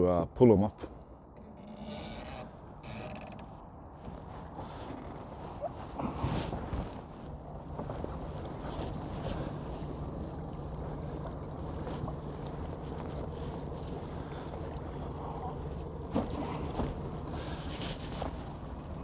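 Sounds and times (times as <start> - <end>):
outboard motor running: 1.3 - 19.0.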